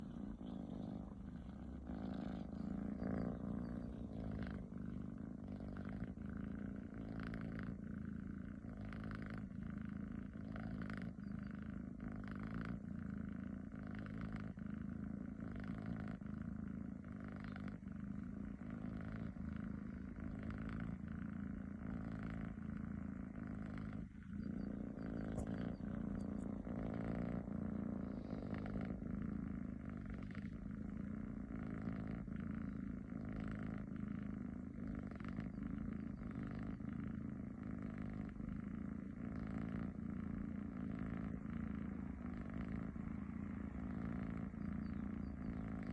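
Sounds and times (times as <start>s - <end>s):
cat snoring: 0.0s - 45.9s.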